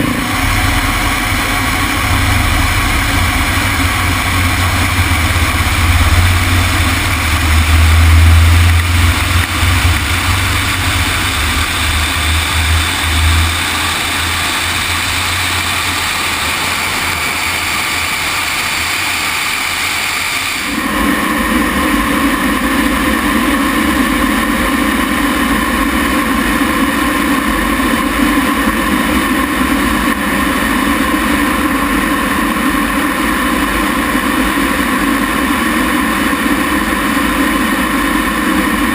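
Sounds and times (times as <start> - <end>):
jet engine roar: 0.0 - 38.9.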